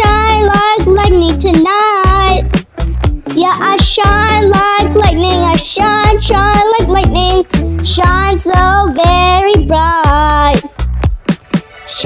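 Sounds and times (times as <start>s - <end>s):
pop backing track with drums: 0.0s - 12.0s.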